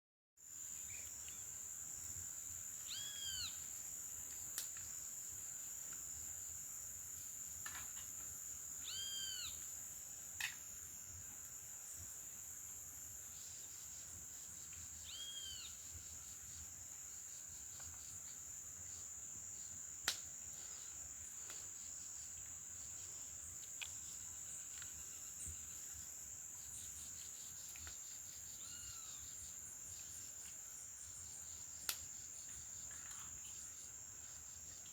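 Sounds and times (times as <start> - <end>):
insects droning: 0.4 - 34.9.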